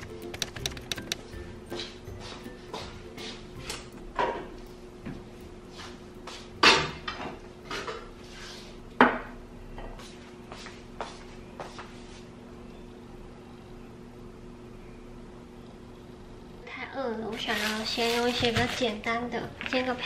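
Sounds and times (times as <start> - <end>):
faint steady hum: 0.0 - 17.4.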